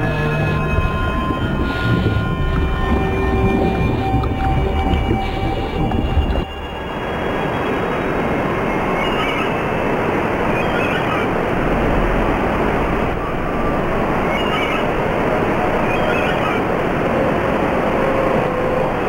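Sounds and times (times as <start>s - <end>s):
ocean surf rushing: 0.0s - 19.0s.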